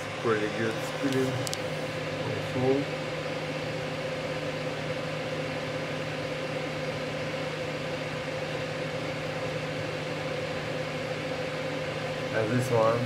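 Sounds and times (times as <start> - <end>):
constant hum: 0.0 - 13.0
cooling fans spinning: 0.0 - 13.0.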